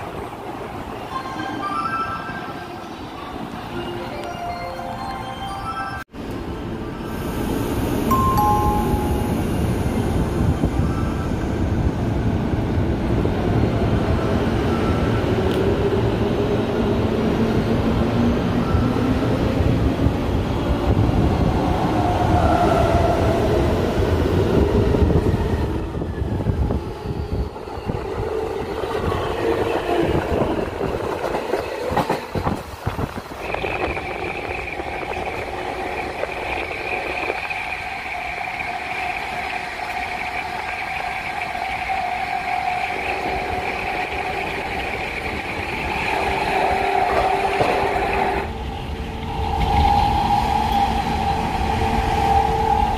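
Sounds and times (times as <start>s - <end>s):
train rolling noise: 0.0s - 52.9s
heavy wind: 6.2s - 41.0s, 41.8s - 52.9s.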